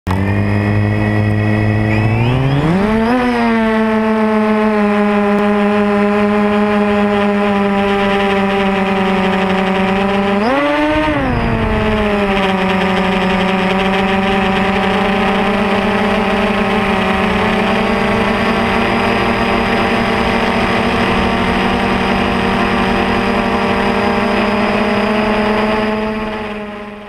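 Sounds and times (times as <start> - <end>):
drone motors whining: 0.1 - 27.0.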